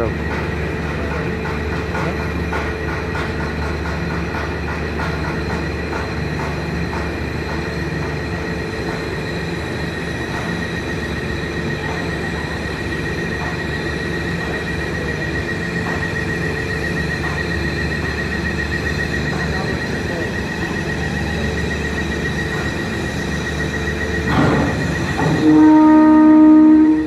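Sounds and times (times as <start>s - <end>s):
ship machinery drone: 0.0s - 27.0s.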